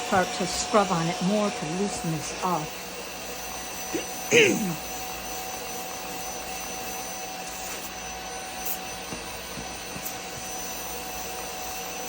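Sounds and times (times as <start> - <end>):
suction motor whine: 0.0 - 12.0.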